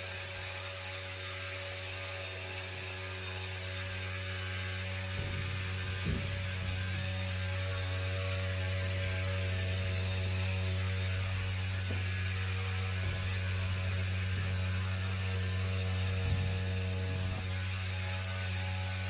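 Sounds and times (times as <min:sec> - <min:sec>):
electrical hum: 0:03.0 - 0:19.0.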